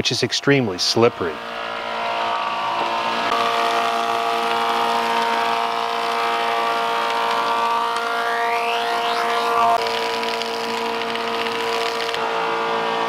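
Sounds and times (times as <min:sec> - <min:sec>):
thickness planer running: 0:00.9 - 0:13.0.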